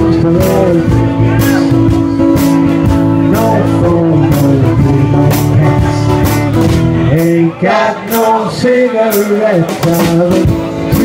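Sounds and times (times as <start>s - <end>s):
person singing: 0.0s - 2.0s, 3.1s - 11.0s
acoustic guitar: 0.0s - 11.0s.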